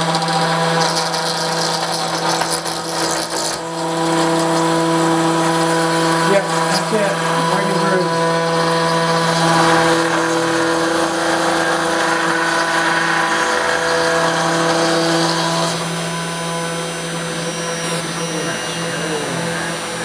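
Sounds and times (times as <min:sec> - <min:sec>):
engraver spindle milling metal: 0:00.0 - 0:20.0.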